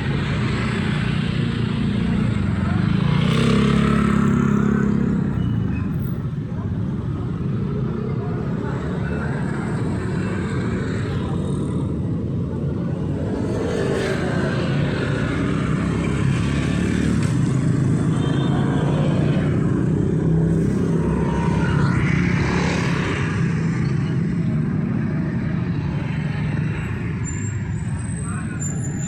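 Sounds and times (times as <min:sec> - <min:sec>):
city road traffic: 0:00.0 - 0:29.0
vehicles passing close by: 0:00.0 - 0:29.0.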